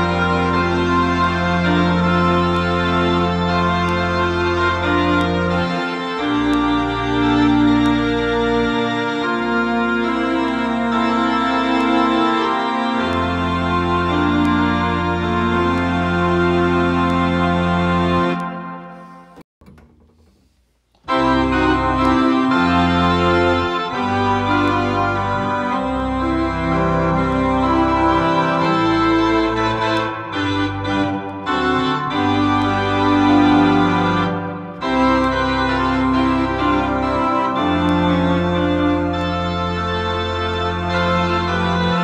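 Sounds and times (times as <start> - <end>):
electronic organ playing a hymn: 0.0 - 19.4, 21.0 - 42.0.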